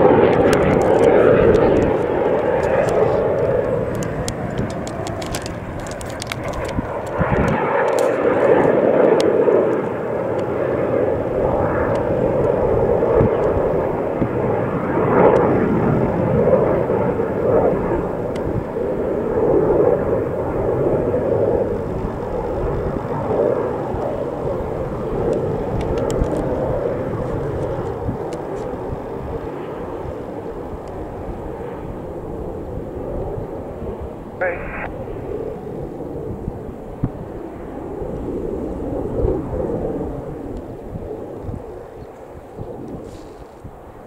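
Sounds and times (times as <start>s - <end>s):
jet engines in flight: 0.0s - 44.0s.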